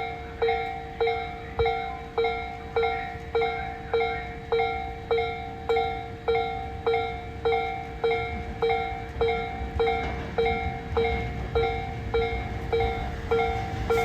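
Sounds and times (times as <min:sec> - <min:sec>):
level crossing warning bell ringing: 0:00.0 - 0:14.0.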